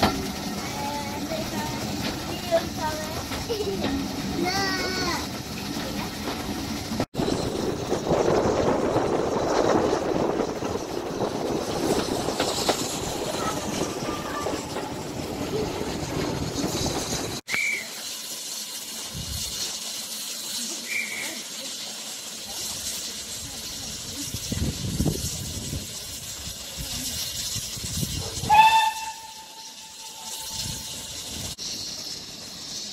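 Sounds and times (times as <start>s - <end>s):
train rumbling rattle: 0.0s - 17.5s, 18.1s - 20.6s, 21.5s - 32.9s.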